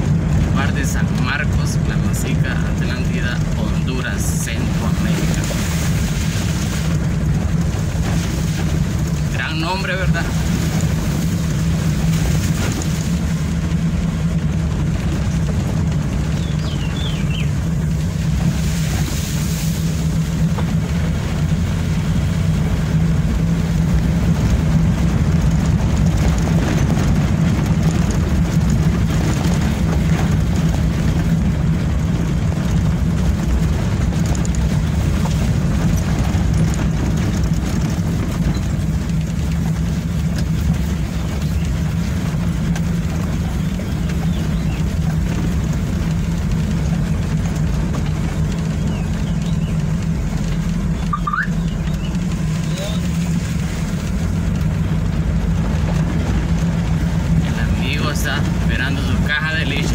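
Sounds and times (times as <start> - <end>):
road noise: 0.0 - 59.9
vehicle engine hum: 0.0 - 59.9.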